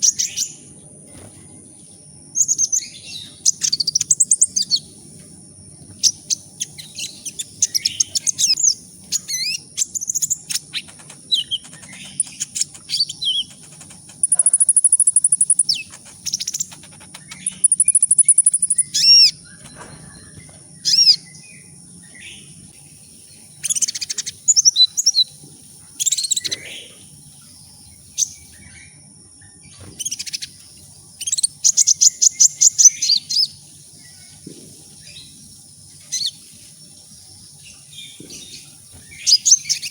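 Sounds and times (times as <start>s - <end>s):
faint low hum: 0.0s - 39.9s
sunbird singing trills: 0.0s - 39.9s
thin steady high tone: 0.0s - 39.9s.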